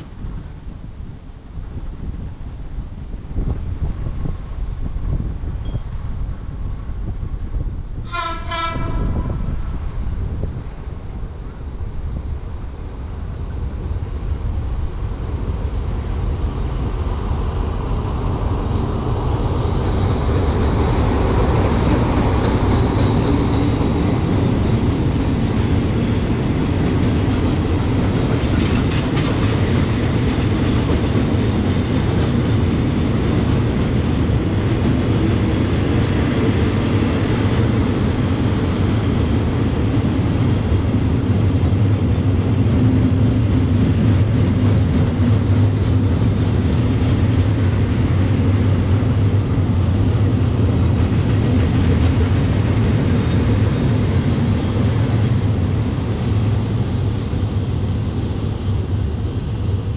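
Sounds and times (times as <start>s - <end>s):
freight train rumbling on track: 0.0s - 59.9s.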